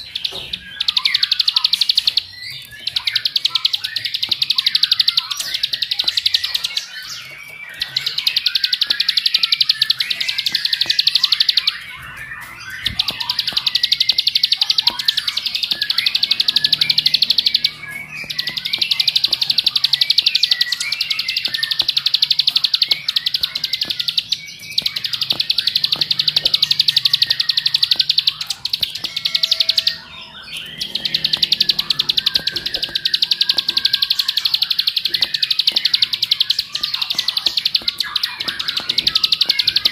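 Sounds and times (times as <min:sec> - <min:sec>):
bird rattling trill: 0:00.0 - 0:39.9.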